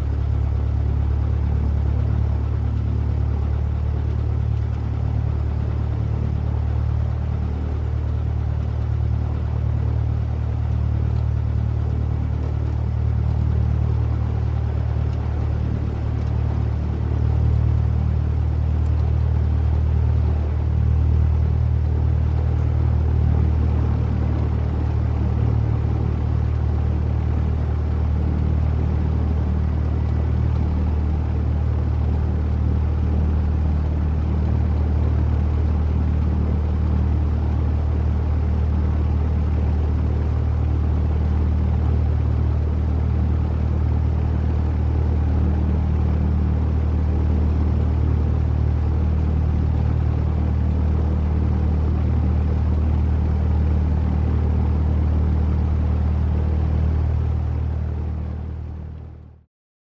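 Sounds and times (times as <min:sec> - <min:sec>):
propeller plane engine idling: 0:00.0 - 0:59.4.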